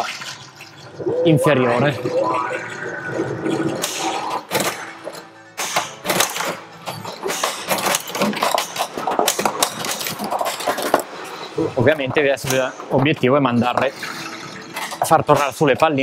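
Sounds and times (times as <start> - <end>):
pinball game music: 0.9 - 15.8
pinball balls and flippers clacking: 1.6 - 16.0.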